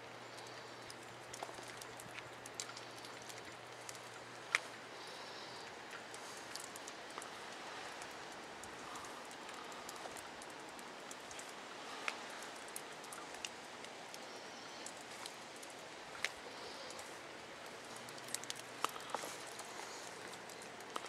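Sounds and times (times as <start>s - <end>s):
raindrops ticking on surfaces: 0.0s - 21.0s
steady rain hiss: 0.0s - 21.0s.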